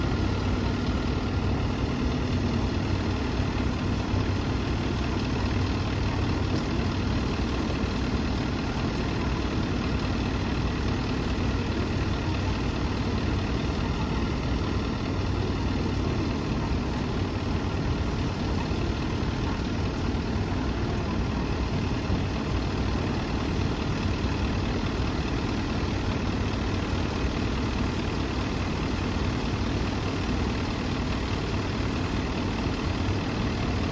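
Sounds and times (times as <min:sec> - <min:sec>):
bus engine idling: 0:00.0 - 0:33.9.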